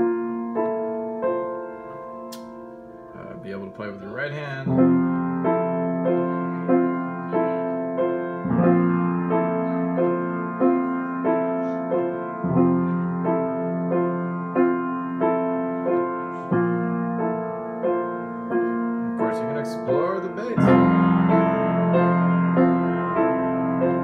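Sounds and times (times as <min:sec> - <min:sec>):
piano riff: 0:00.0 - 0:24.0.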